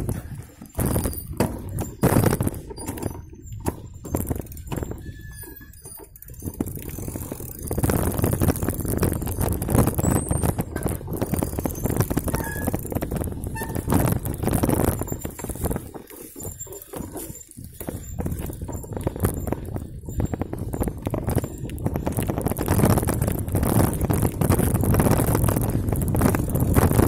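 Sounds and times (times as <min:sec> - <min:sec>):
bike rattling over rough trail: 0:00.0 - 0:27.0.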